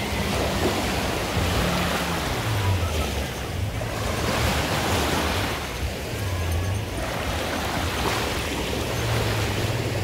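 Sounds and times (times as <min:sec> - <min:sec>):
distant jet ski engine: 0:00.0 - 0:10.0
sea waves washing: 0:00.0 - 0:10.0.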